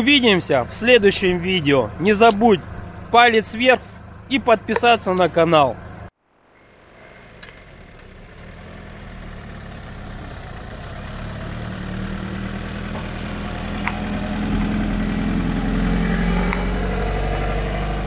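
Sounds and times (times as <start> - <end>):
car engine running at low revs: 0.0 - 18.0.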